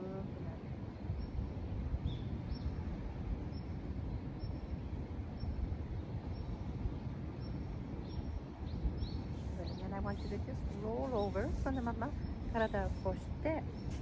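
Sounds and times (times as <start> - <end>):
steam venting from fumaroles: 1.6 - 14.0.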